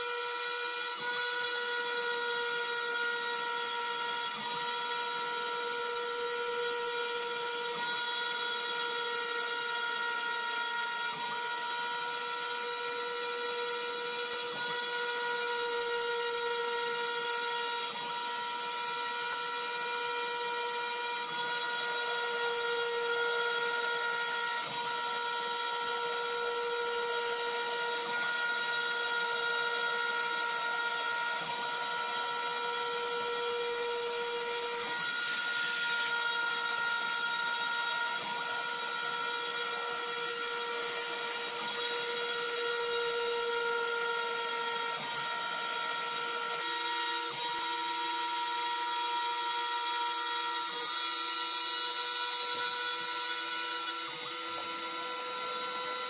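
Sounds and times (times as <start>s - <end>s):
rotary tool milling whine: 0.0s - 56.0s
vacuum cleaner running: 0.0s - 56.0s.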